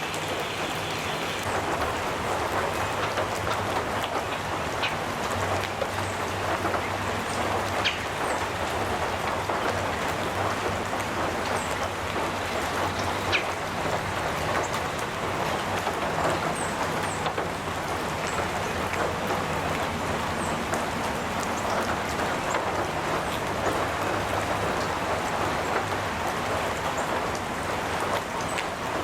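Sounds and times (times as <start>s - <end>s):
rain on a metal roof: 0.0s - 29.0s.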